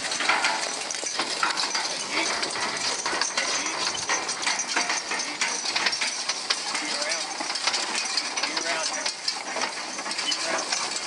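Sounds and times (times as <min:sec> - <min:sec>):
harness chains jingling and clinking: 0:00.0 - 0:11.0
hay rake metal rattle: 0:00.0 - 0:11.0.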